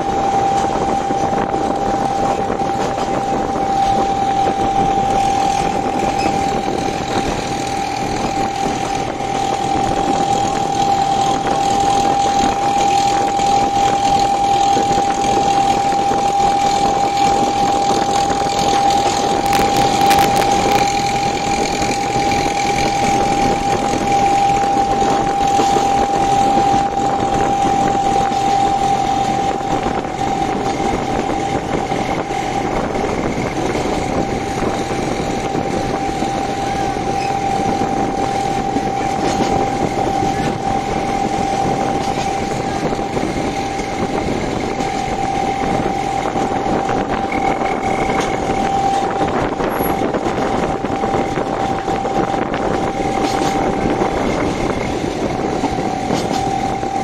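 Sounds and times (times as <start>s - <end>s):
high whine: 0.0s - 57.0s
train rumbling on track: 0.0s - 57.0s.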